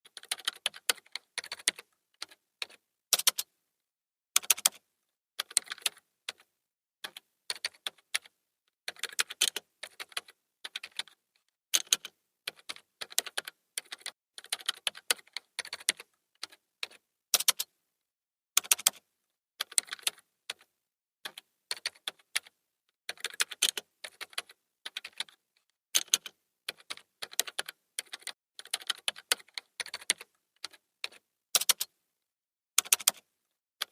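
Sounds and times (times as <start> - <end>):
computer keyboard typing: 0.0 - 3.5, 4.4 - 4.8, 5.4 - 11.2, 11.8 - 17.7, 18.6 - 19.0, 19.6 - 25.4, 26.0 - 31.9, 32.8 - 33.9.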